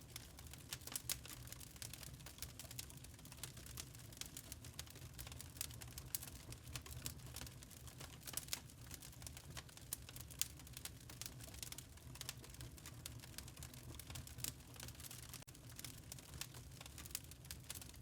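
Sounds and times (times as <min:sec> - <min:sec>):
low rumble of burning logs: 0:00.0 - 0:18.0
wood fire crackling and popping: 0:00.0 - 0:18.0.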